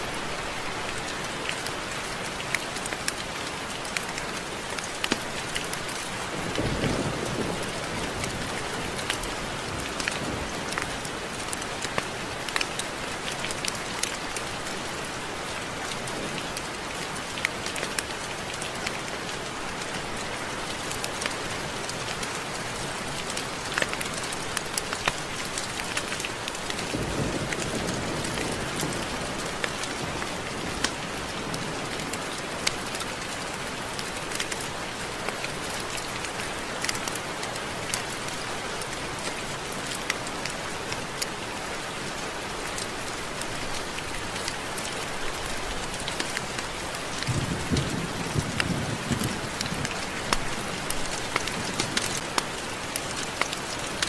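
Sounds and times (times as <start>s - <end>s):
rain drops ticking on a surface: 0.0s - 54.0s.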